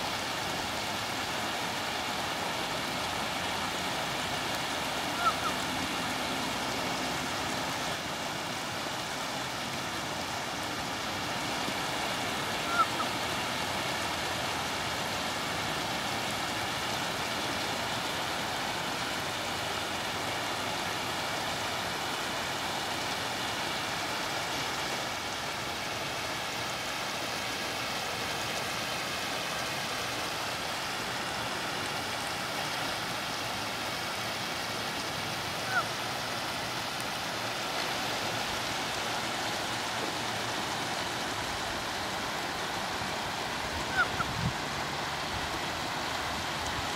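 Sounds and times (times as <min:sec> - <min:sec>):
water rushing over weir: 0:00.0 - 0:46.9.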